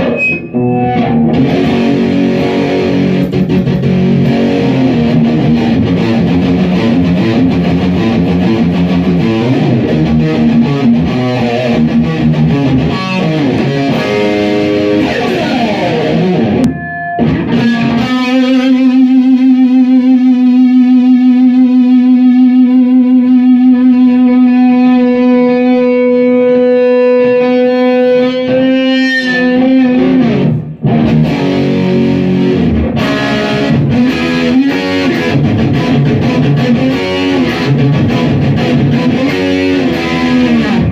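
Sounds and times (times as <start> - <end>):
electric guitar riffing: 0.0 - 40.9.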